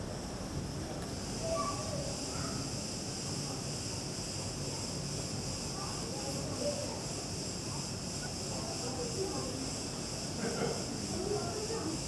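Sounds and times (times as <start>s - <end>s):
high-pitched insect chorus: 0.0s - 12.0s
faint chirps or distant voices: 1.2s - 12.0s.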